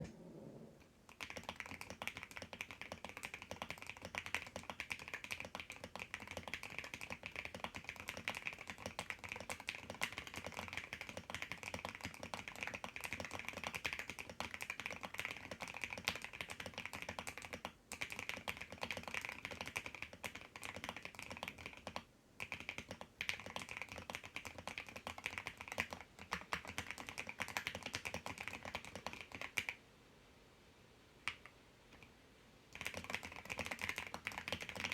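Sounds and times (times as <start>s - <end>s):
mechanical keyboard typing: 1.1s - 29.7s, 32.7s - 34.9s.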